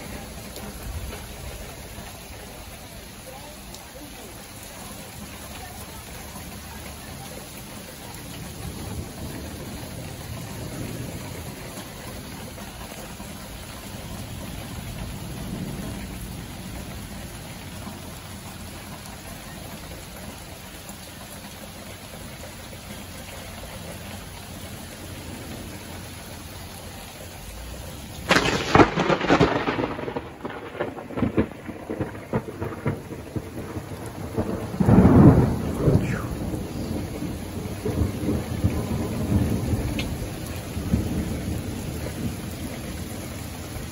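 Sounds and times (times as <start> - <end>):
steady rain hiss: 0.0 - 43.9
thunder crackling and rumbling: 0.0 - 43.9.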